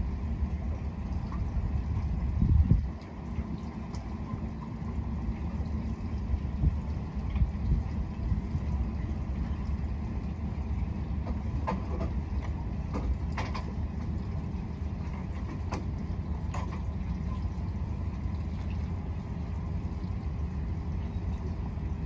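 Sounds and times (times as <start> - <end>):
motorboat engine rumbling: 0.0 - 22.0.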